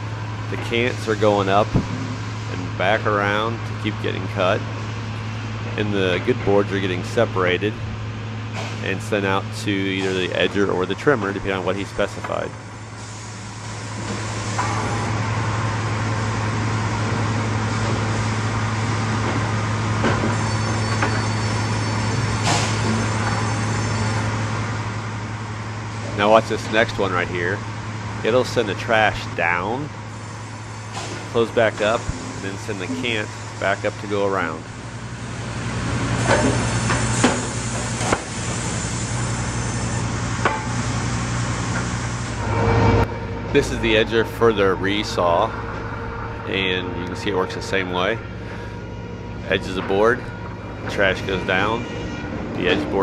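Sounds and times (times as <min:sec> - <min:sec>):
conveyor machinery drone: 0:00.0 - 0:53.0.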